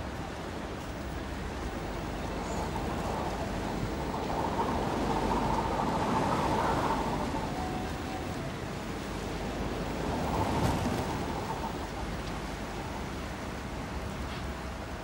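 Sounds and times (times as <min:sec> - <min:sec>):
low engine hum: 0:00.0 - 0:15.0
wind and water noise: 0:00.0 - 0:15.0.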